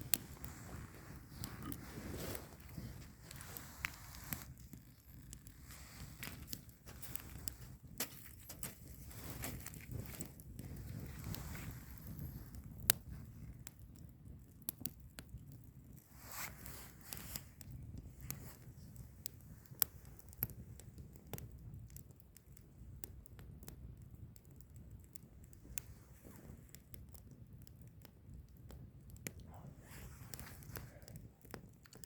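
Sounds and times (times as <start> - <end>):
firewood crackling and popping: 0.0 - 32.0
low rush of flame: 0.0 - 32.0.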